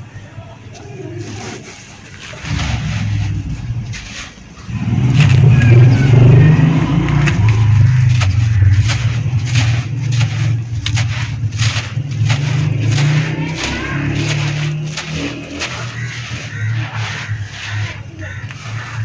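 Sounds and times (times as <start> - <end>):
dry dirt crunching by hand: 0.0 - 19.0
crumbs pouring onto dry soil: 1.2 - 19.0
low rumble: 1.2 - 19.0.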